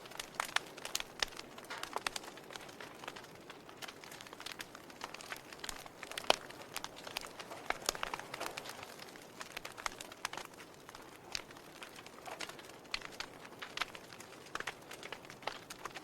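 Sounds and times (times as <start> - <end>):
log fire crackling: 0.0 - 16.0.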